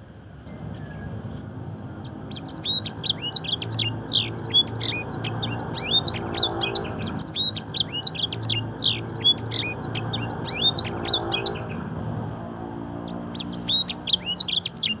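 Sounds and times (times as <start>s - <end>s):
canary singing: 0.5s - 11.9s, 13.0s - 15.0s.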